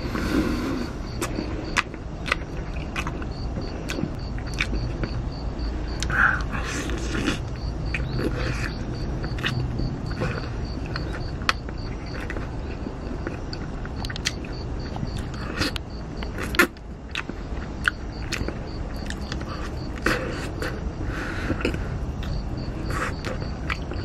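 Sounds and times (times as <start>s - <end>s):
insect chirping: 0.0s - 24.0s
chewing with clicks and smacks: 1.1s - 20.8s, 21.5s - 24.0s.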